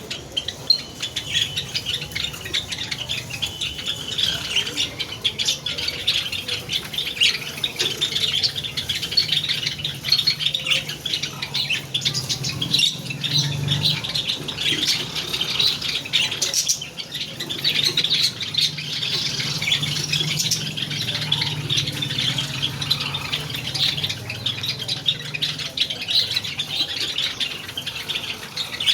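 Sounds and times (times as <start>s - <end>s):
flock of sparrows chirping: 0.0s - 28.9s.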